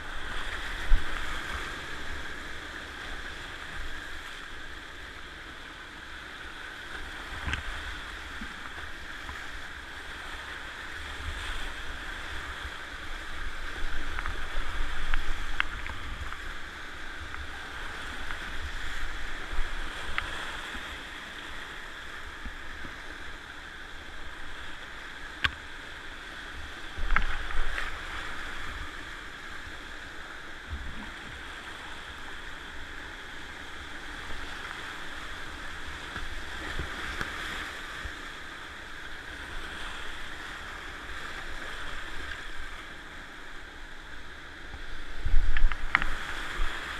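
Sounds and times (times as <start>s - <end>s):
whitewater rushing: 0.0s - 46.9s.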